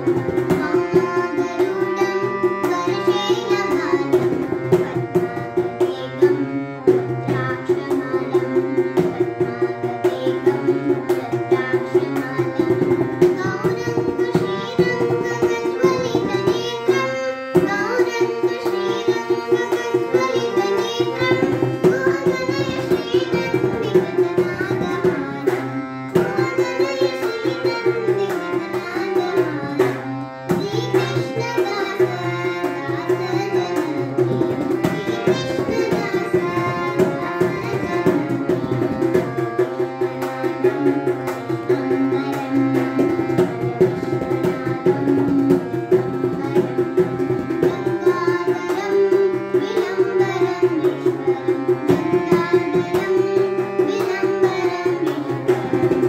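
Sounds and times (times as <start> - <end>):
tabla rhythm: 0.0 - 56.0.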